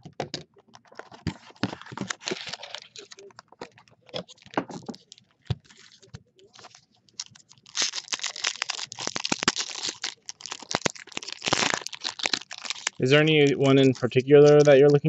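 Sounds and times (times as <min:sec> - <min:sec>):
card packaging tearing and crinkling: 0:01.0 - 0:15.0.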